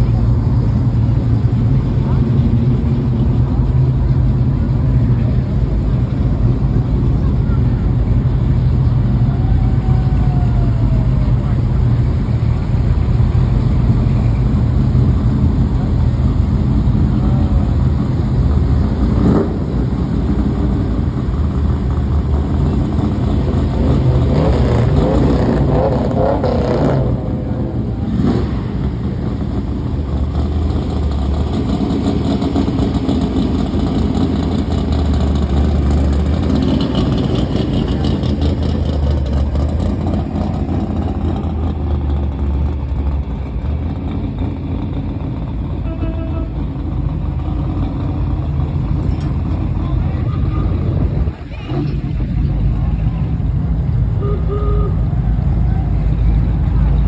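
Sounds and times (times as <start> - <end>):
car engines driving past: 0.0 - 57.0.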